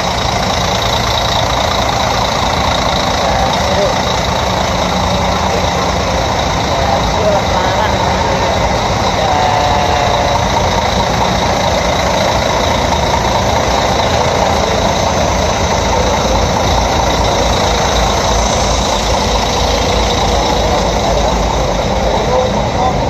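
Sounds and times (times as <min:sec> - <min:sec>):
heavy diesel engine idling: 0:00.0 - 0:23.0.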